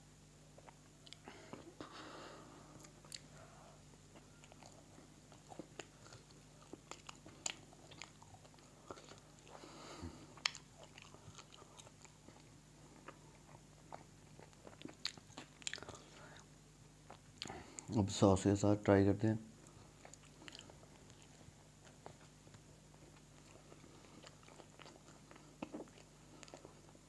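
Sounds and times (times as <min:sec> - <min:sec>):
man chewing pizza: 0:00.4 - 0:18.0, 0:19.6 - 0:27.0.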